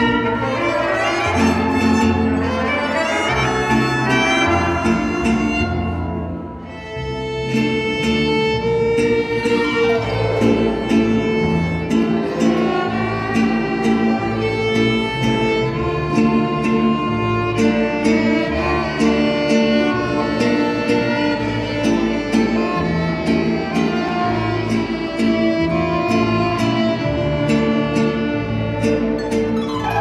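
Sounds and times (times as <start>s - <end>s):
strummed guitars: 0.0s - 30.0s
violins playing melody: 0.0s - 30.0s.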